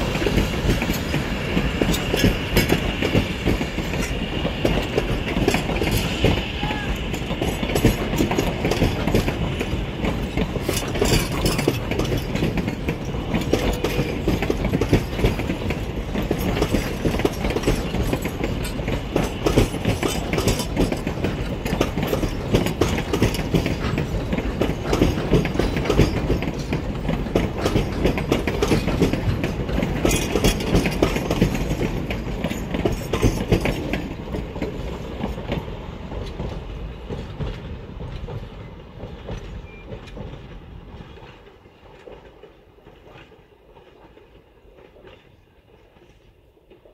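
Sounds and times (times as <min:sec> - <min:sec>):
train wheels clattering over rail joints: 0:00.0 - 0:46.9.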